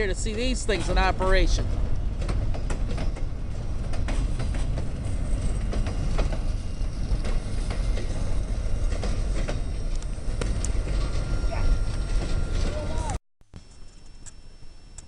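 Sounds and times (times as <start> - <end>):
train rumbling past: 0.0 - 13.2
wheels clicking over rail joints: 0.0 - 13.2.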